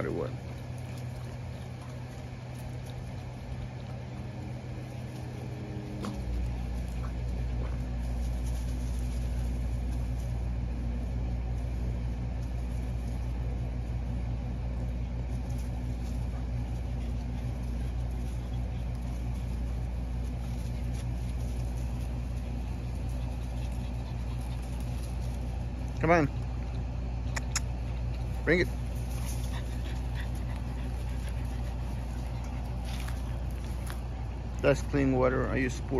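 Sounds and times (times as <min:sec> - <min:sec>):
machine humming: 0:00.0 - 0:35.9.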